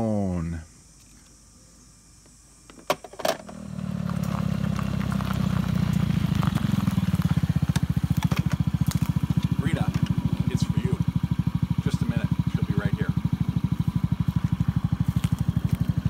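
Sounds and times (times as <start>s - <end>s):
scooter engine starting and idling: 2.9s - 16.0s.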